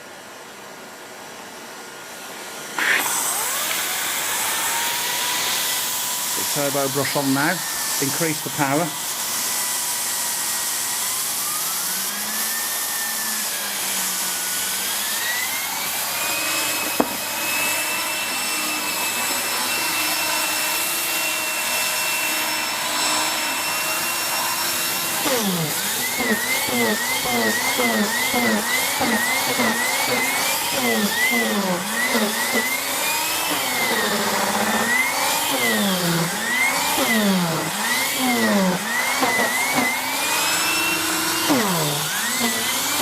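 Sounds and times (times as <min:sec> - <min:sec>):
vacuum cleaner motor whine: 0:00.0 - 0:43.0.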